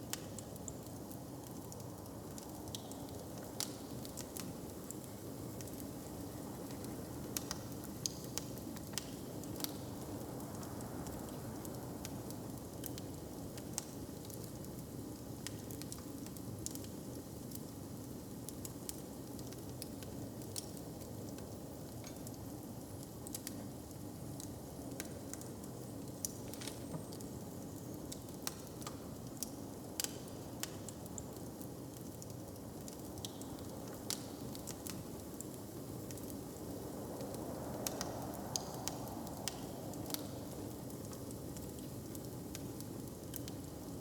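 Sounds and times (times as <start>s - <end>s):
open fire crackling: 0.0s - 44.0s.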